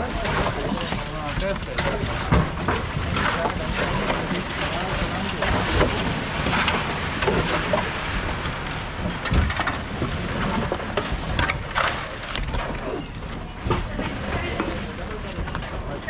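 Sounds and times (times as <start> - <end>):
wet concrete pouring: 0.0 - 16.0.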